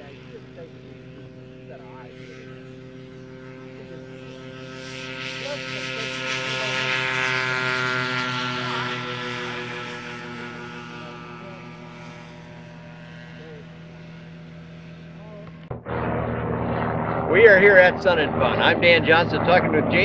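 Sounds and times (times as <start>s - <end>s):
light aircraft engine and propeller: 0.0s - 20.0s.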